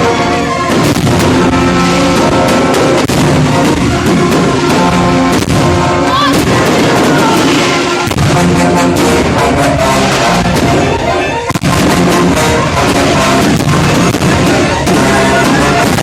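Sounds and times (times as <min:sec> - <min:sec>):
fireworks bangs and crackle: 0:00.0 - 0:16.0
loud music: 0:00.0 - 0:16.0.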